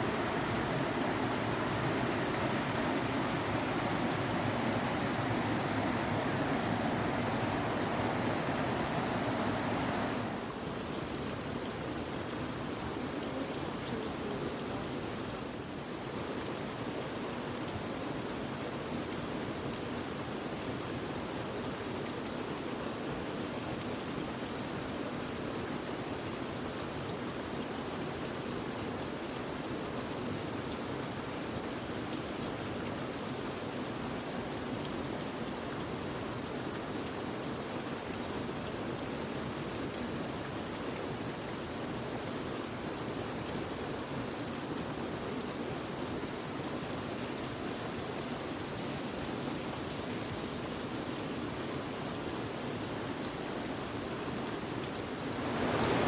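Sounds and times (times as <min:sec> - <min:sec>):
stream water rushing: 0:00.0 - 0:23.0, 0:30.8 - 0:56.0.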